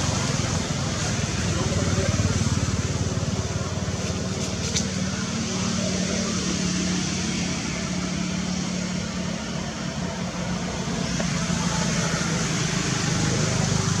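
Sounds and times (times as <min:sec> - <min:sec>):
engine-like hum: 0:00.0 - 0:14.0.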